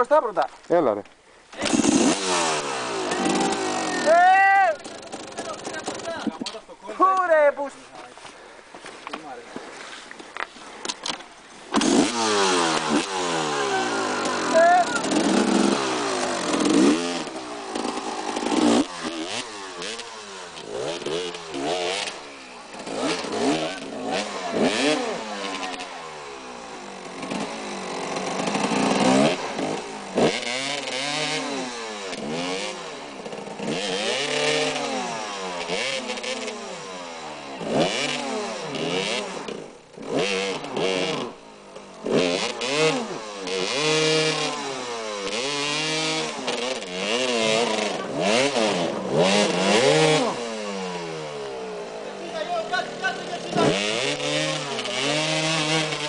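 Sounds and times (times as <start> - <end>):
motorcycle engine revving: 1.5 - 6.5, 11.7 - 56.0.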